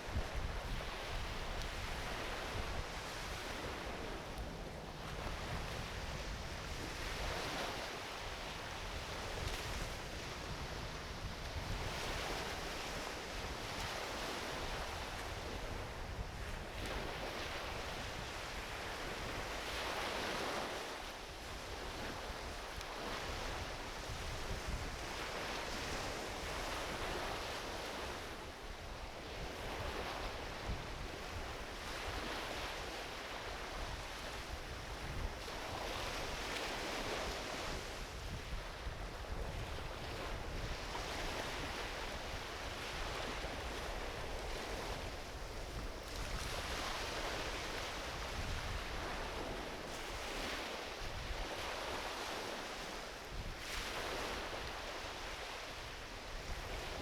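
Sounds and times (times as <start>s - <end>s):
small waves washing onto beach: 0.0s - 57.0s.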